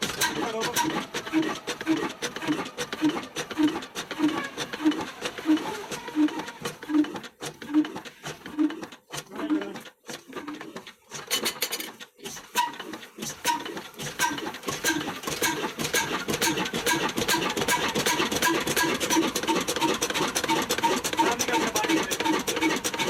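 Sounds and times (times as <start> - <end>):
diesel engine clattering: 0.0 - 9.6, 12.6 - 23.0.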